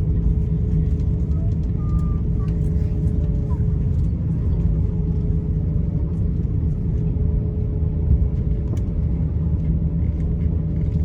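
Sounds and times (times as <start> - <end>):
airplane cabin rumble and hum: 0.0 - 11.0.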